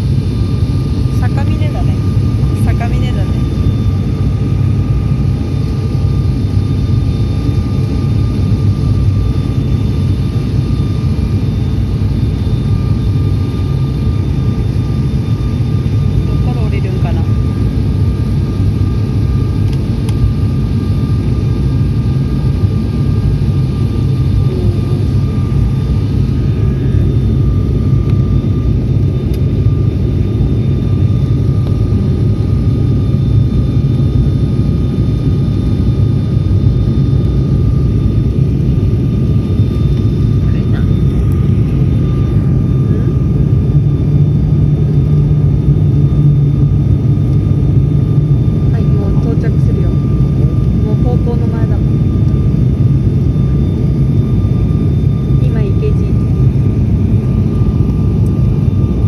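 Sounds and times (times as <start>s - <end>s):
airliner engine drone: 0.0s - 59.0s
thin steady whine: 0.0s - 59.0s.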